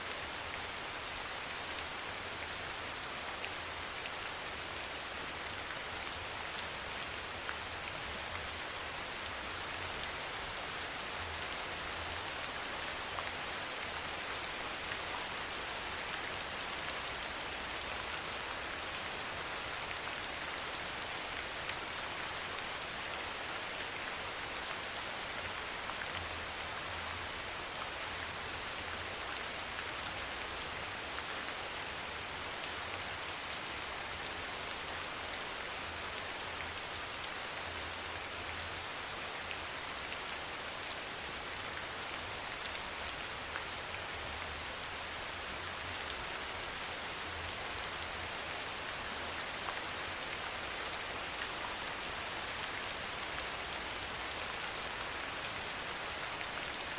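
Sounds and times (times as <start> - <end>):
soft rain falling: 0.0 - 56.9.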